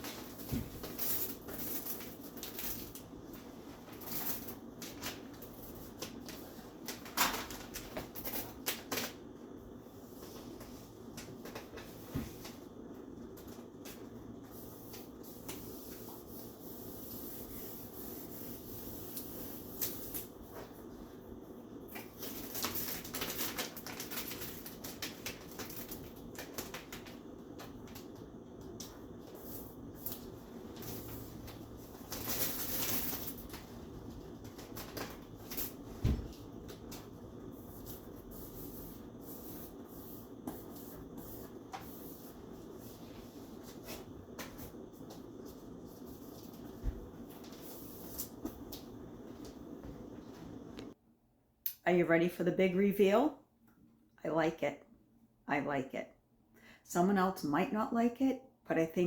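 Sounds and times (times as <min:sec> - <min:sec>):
contact paper rustling and crinkling: 0:00.0 - 0:09.2, 0:09.9 - 0:21.2, 0:21.9 - 0:50.9
steady low hum: 0:00.0 - 0:51.0.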